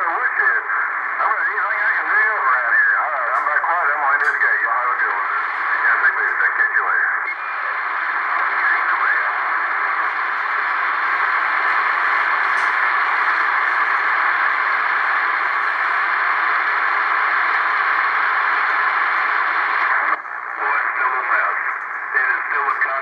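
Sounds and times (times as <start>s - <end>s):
radio static hiss: 0.0s - 23.0s
warbling radio transmission: 0.0s - 23.0s.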